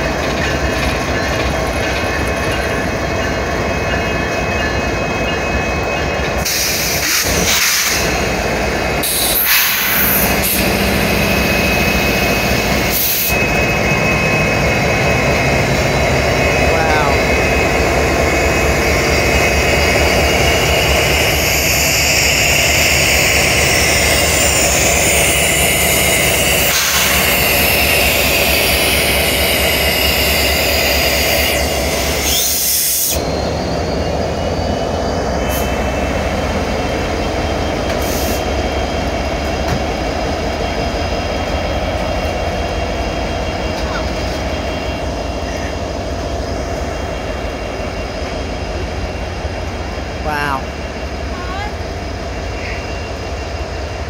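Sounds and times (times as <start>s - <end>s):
diesel locomotive engines: 0.0s - 54.0s
freight cars rumbling on rails: 0.0s - 54.0s.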